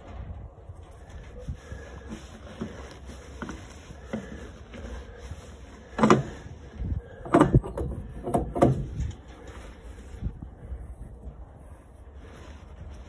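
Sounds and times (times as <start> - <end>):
rubbing and knocking sounds: 1.1 - 13.0
rag wiping metal housing: 1.7 - 13.0.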